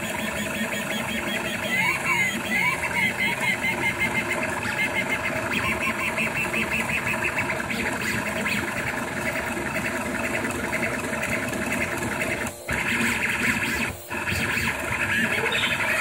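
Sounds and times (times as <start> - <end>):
stepper motors buzzing: 0.0 - 16.0.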